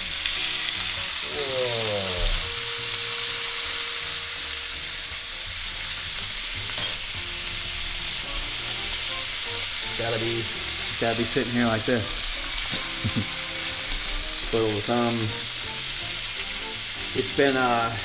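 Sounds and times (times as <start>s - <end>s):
steaks sizzling on griddle: 0.0s - 18.0s.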